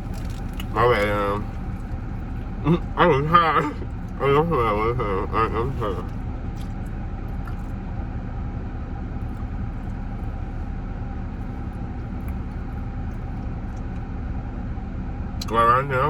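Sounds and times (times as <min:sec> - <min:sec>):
car engine rumble: 0:00.0 - 0:16.0
faint steady hum: 0:00.0 - 0:16.0.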